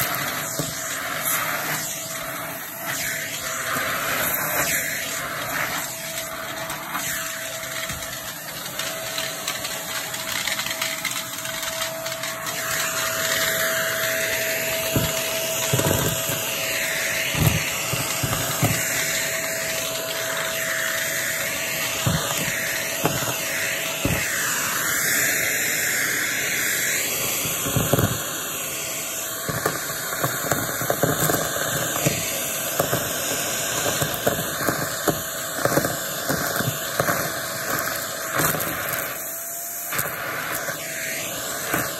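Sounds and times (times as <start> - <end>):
vacuum cleaner whining: 0.0 - 41.9.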